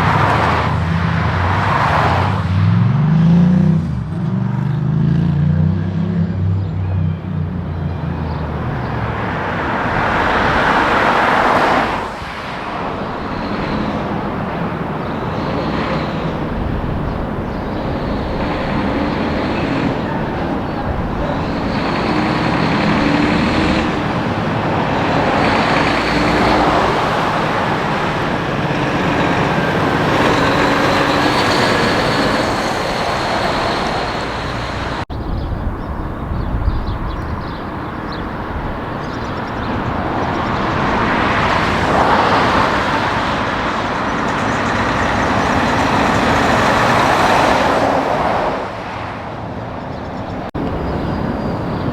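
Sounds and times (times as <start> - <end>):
heavy trucks passing on highway: 0.0 - 51.9.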